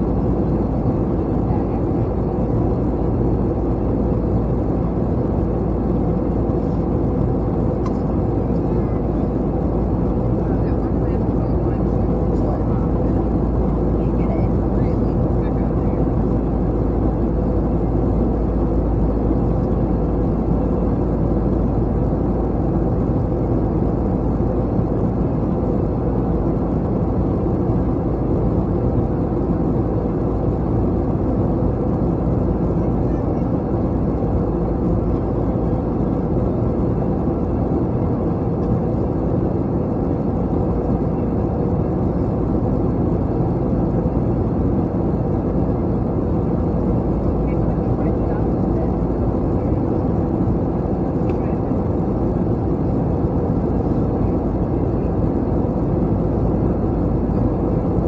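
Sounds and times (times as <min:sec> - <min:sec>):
airliner engine hum: 0:00.0 - 0:58.0.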